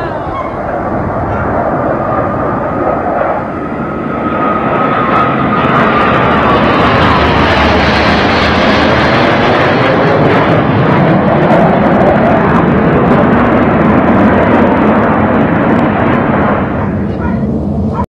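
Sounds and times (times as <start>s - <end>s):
jet whine falling in pitch: 0.0s - 18.0s
jets roaring overhead: 0.0s - 18.0s.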